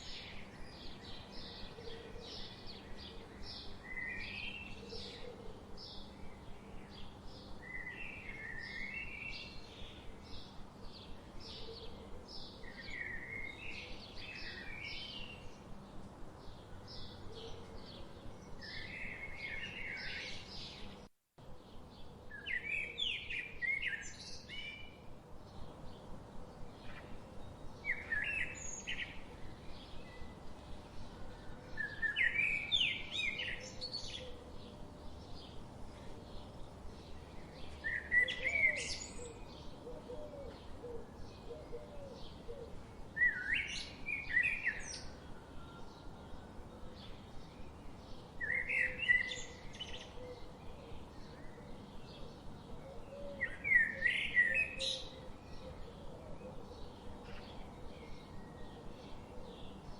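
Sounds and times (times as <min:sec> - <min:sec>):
birds singing: 0:00.0 - 0:59.9
faint background hiss: 0:00.0 - 0:59.9.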